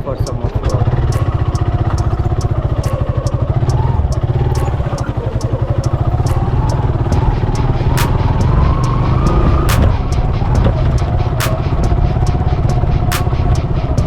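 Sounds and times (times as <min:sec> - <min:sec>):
sharp clicks: 0:00.0 - 0:14.0
motorcycle engine revving: 0:00.3 - 0:14.0.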